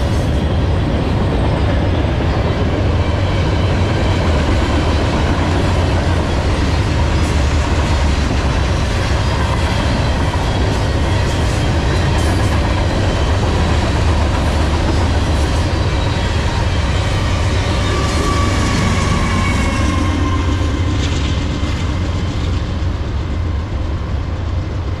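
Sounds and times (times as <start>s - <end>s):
diesel locomotive passing: 0.0s - 25.0s
train wheels clattering on rails: 0.0s - 25.0s.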